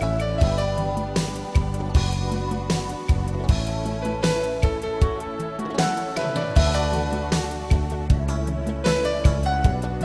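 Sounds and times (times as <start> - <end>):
background music with percussion: 0.0 - 10.0.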